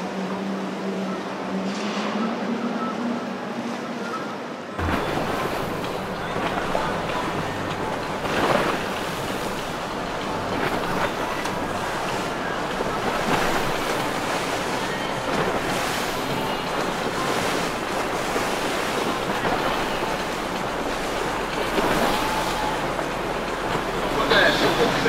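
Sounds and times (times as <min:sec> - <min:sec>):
boat engines droning: 0:00.0 - 0:25.0
waves rushing: 0:00.0 - 0:25.0.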